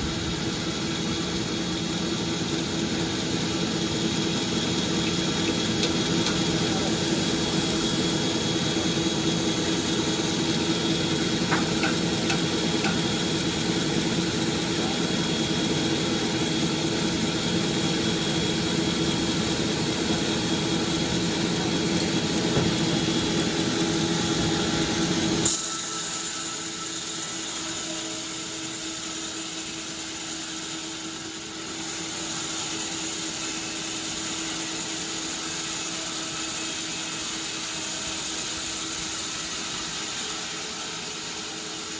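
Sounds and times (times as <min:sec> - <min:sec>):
sawmill machinery whine: 0:00.0 - 0:41.9.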